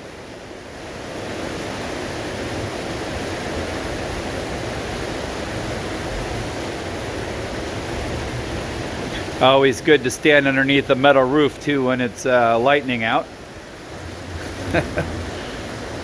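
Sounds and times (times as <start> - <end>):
heavy rain on a metal roof: 0.0 - 16.0.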